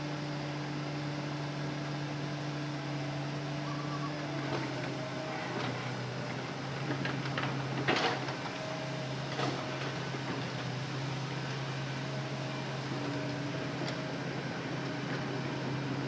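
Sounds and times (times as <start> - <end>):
excavator engine humming: 0.0 - 16.0.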